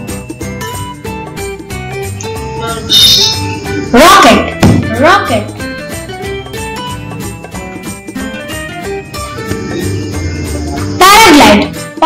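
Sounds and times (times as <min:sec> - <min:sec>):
light plucked instrumental music: 0:00.0 - 0:12.0.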